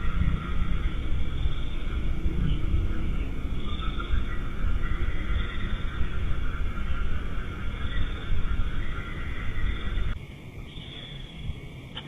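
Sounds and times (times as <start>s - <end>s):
microphone hiss and low rumble: 0.0s - 12.0s.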